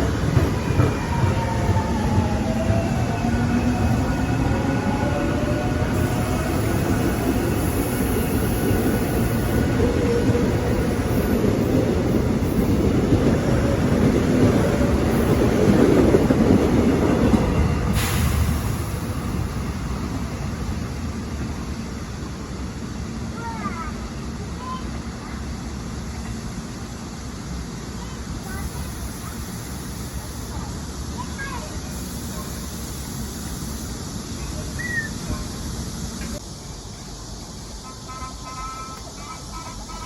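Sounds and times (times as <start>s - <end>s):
subway train rumbling on rails: 0.0s - 40.0s.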